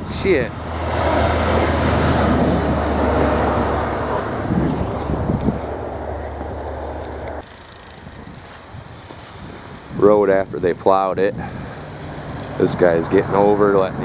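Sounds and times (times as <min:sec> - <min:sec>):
vehicle passing on snowy road: 0:00.4 - 0:10.1, 0:11.4 - 0:14.0.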